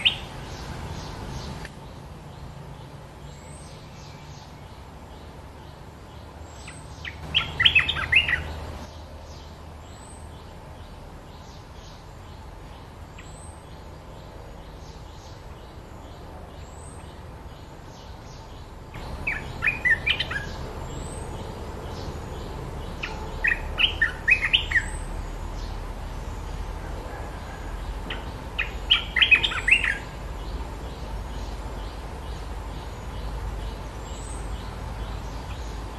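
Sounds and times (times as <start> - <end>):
bulbuls singing: 0.0 - 35.9.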